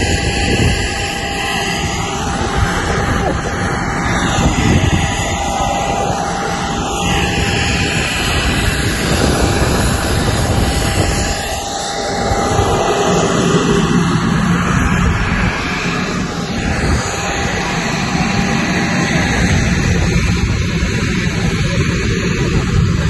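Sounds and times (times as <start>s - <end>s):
aircraft turbine engines running: 0.0s - 23.0s.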